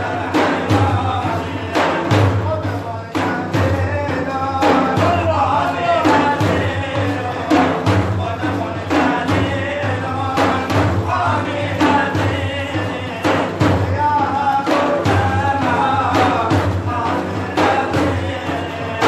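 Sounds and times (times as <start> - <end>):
drum strokes: 0.0 - 19.0
man singing praise song: 0.0 - 19.0.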